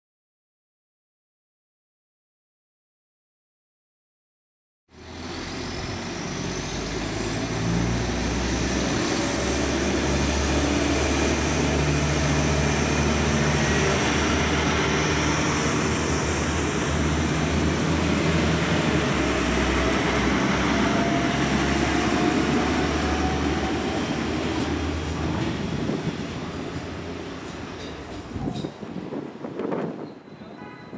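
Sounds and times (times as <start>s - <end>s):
train high whine: 4.9s - 30.9s
train hum and rumble: 4.9s - 30.9s.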